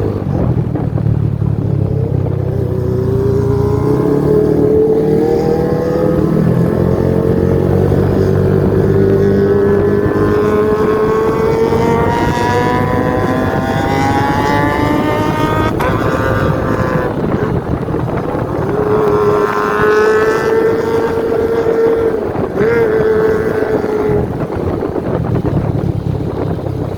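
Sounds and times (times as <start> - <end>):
motorcycle engine revving high: 0.0 - 26.9.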